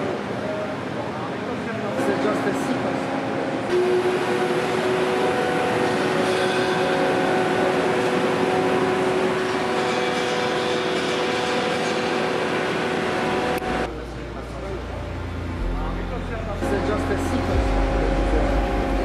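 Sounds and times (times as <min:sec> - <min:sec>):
industrial machinery hum: 0:00.0 - 0:19.0.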